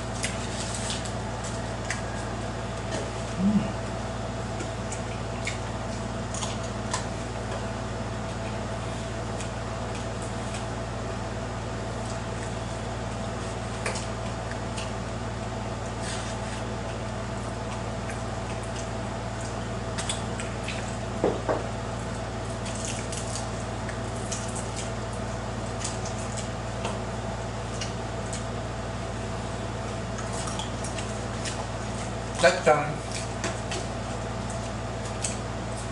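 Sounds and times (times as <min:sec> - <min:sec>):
wet chewing and mouth noises: 0:00.0 - 0:10.8, 0:11.9 - 0:21.2, 0:21.9 - 0:35.9
steady background hum: 0:00.0 - 0:35.9.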